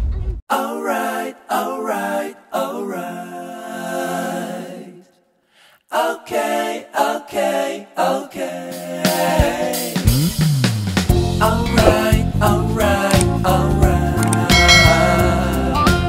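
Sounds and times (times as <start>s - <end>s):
a cappella singing: 0.5s - 5.3s, 5.9s - 10.1s, 11.2s - 16.0s.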